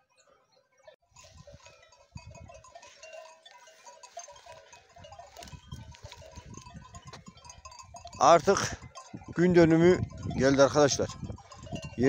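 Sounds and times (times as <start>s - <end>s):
animal bells clinking: 0.0s - 12.0s.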